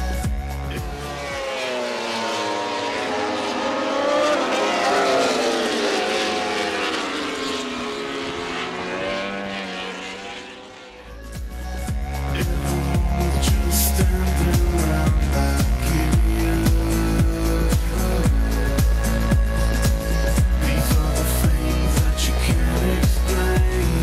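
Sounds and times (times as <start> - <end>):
racing motorcycle engines passing: 0.6 - 24.0.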